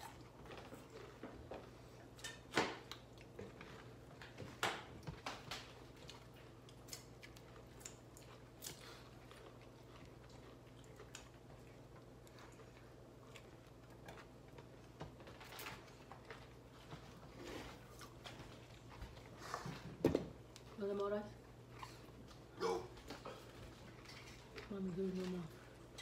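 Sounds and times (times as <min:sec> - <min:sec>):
people chewing food: 0:00.0 - 0:26.0.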